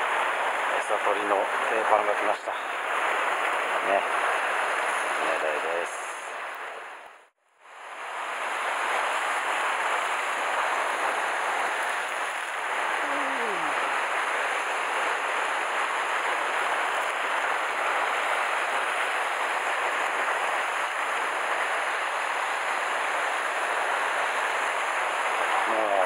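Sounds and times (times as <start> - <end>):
waves breaking over rocks: 0.0 - 7.0, 7.8 - 26.0.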